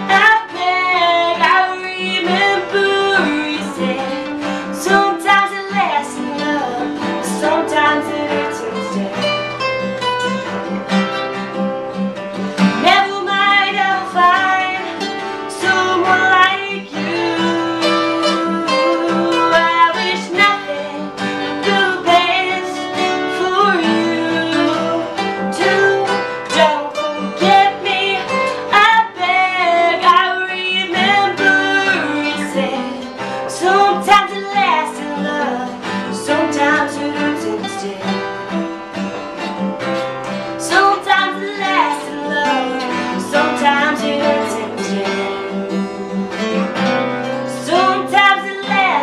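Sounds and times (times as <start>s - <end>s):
young woman singing a ballad: 0.0s - 9.6s, 12.6s - 38.8s, 40.0s - 46.2s, 47.3s - 49.0s
acoustic guitars strummed and picked: 0.0s - 49.0s.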